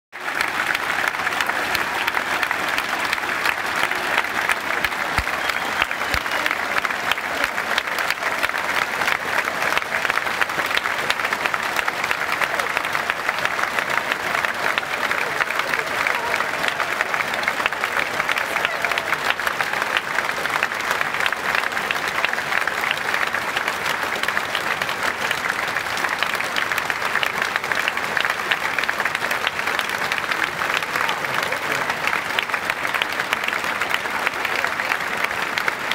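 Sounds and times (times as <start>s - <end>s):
stadium crowd applauding: 0.1s - 35.9s.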